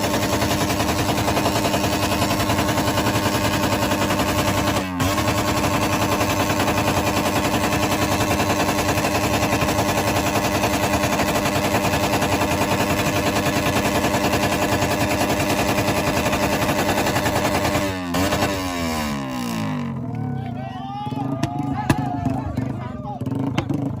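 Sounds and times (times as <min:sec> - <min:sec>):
motorcycle engine with loud exhaust: 0:00.0 - 0:24.0.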